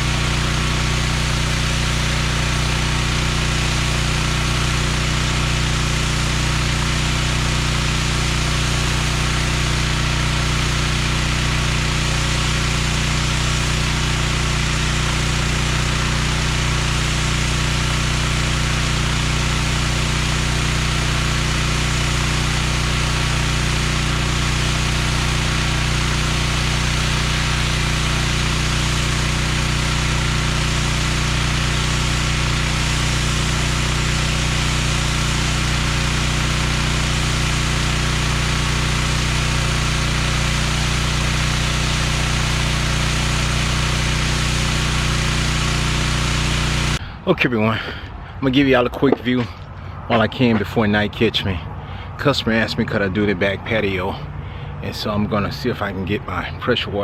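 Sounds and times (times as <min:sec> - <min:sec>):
pressure washer running: 0:00.0 - 0:47.1, 0:51.4 - 0:56.5.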